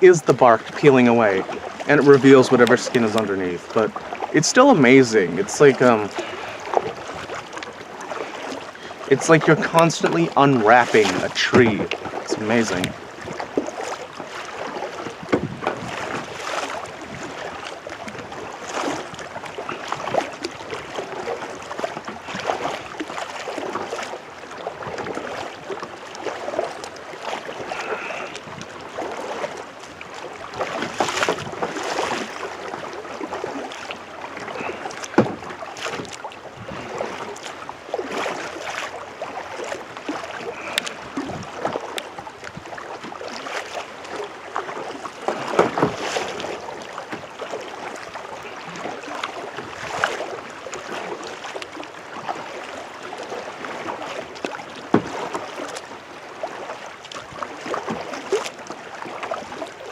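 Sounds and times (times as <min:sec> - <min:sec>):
water dripping off paddle: 0:00.0 - 0:59.8
paddle strokes splashing water: 0:00.0 - 0:59.9.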